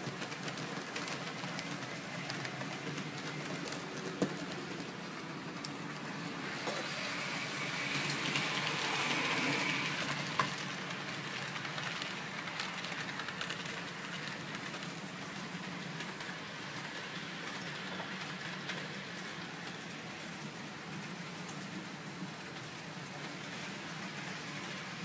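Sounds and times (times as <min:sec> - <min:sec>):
model train wheels hissing on rails: 0:00.0 - 0:25.0.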